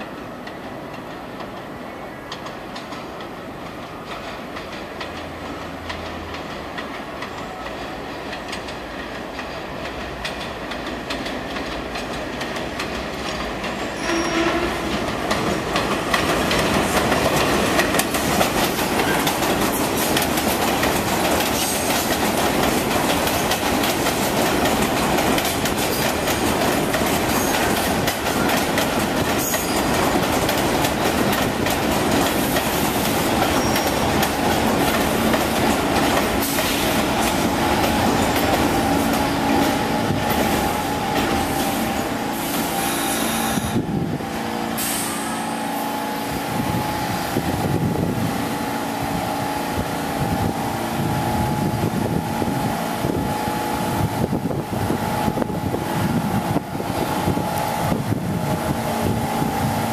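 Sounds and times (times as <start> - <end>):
subway train wheels clacking: 0.0 - 59.9.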